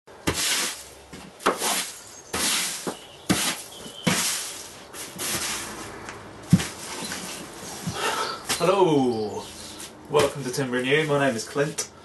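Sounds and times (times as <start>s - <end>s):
broom sweeping concrete floor: 0.2s - 8.7s, 9.3s - 11.9s.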